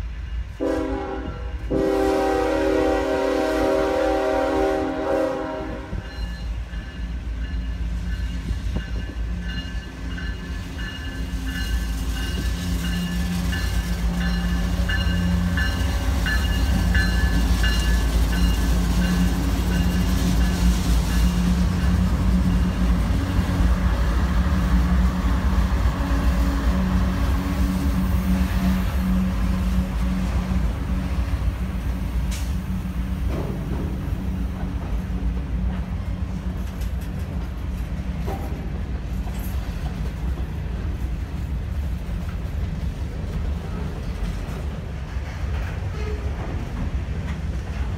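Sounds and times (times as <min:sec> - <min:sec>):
diesel train rumbling past: 0:00.0 - 0:47.9.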